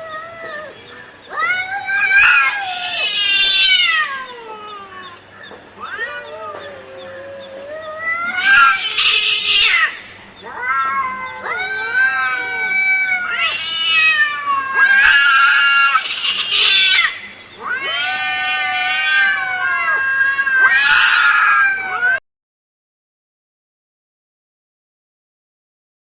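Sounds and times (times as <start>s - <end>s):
cat yowling: 0.0s - 22.2s.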